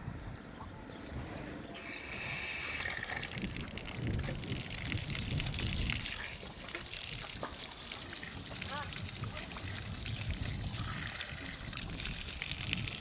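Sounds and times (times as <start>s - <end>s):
water gushing and splashing: 1.8s - 13.0s.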